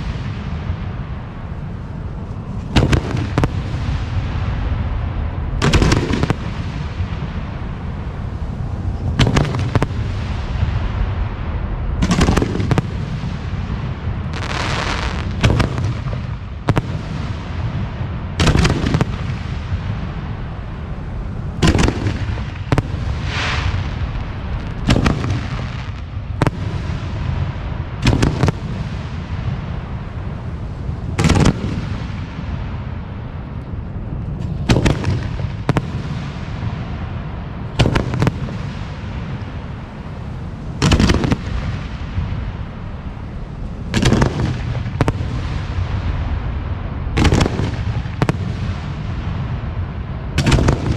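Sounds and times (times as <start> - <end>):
firework shells booming: 0.0 - 11.2, 12.0 - 33.1, 34.0 - 50.9
hissing crackle of fireworks: 0.0 - 50.9.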